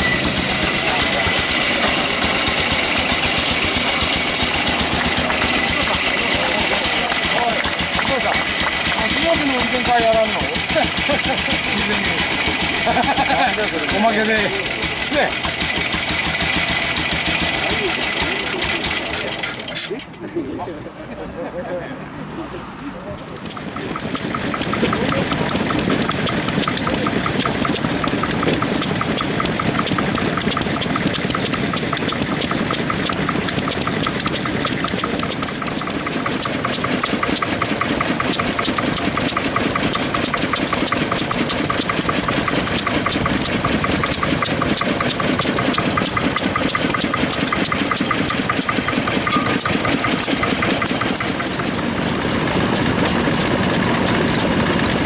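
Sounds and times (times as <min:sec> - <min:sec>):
stationary engine running: 0:00.0 - 0:20.2, 0:23.1 - 0:55.0.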